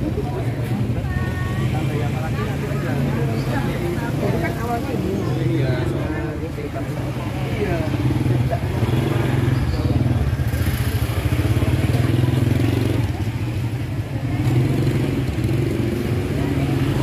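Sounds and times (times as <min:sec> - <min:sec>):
faint crowd voices: 0:00.0 - 0:17.0
scooter engine humming: 0:00.0 - 0:17.0.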